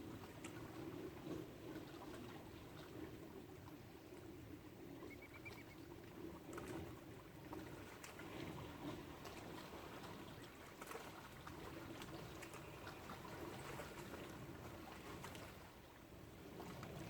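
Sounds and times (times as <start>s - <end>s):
small clicks and splashes: 0.0s - 4.3s, 5.4s - 15.8s
lake water lapping and trickling: 0.0s - 17.0s.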